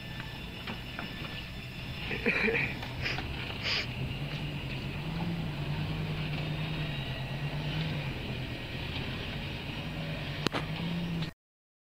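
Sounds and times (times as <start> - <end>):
truck engine running: 0.0 - 11.3.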